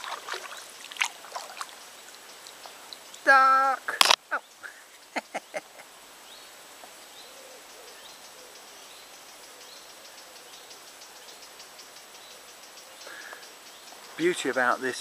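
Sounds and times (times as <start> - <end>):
background hiss: 0.0 - 15.0
faint birdsong: 0.0 - 15.0.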